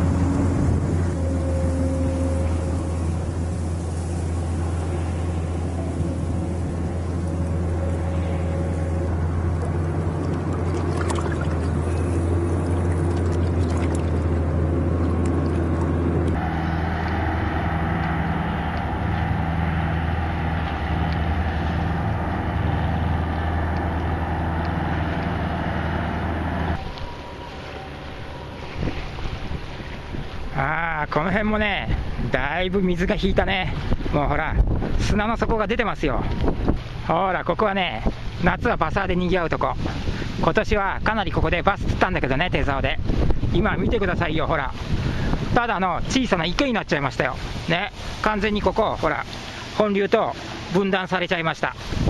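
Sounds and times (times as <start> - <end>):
boat engine droning: 0.0 - 52.0.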